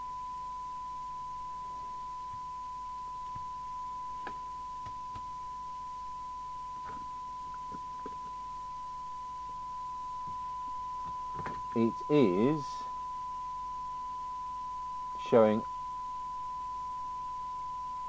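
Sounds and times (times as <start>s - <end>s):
steady test tone from speaker: 0.0s - 18.0s.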